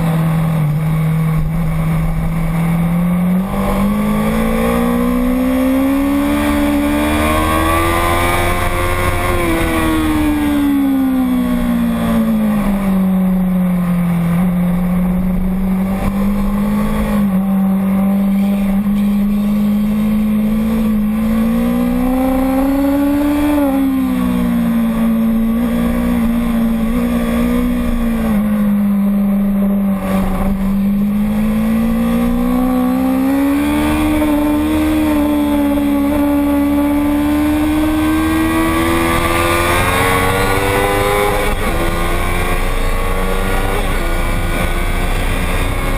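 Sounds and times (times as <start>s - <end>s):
motorcycle engine running hard: 0.0s - 45.9s.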